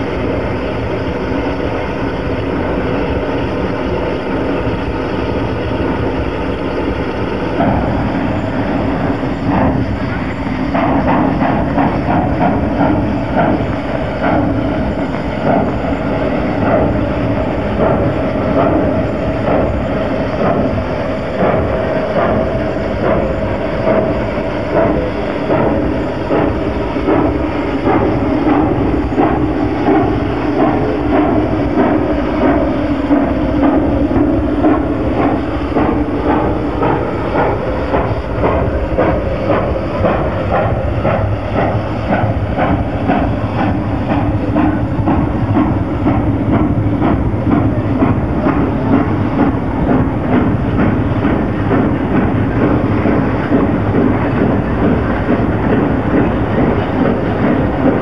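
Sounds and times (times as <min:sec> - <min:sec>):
steam train running: 0:00.0 - 0:58.0.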